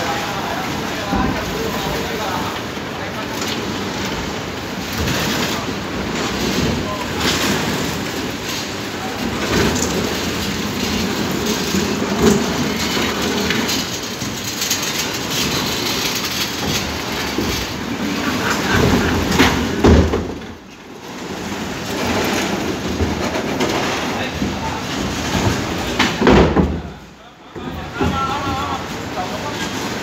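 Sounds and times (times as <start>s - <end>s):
plastic barriers scraping and knocking: 0.0s - 30.0s
rough street noise: 0.0s - 30.0s.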